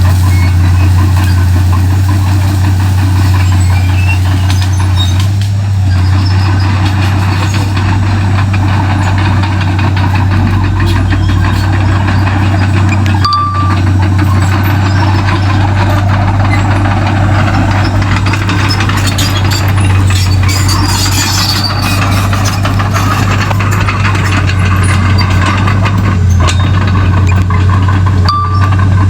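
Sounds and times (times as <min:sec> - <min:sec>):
bulldozer diesel engine humming: 0:00.0 - 0:29.0.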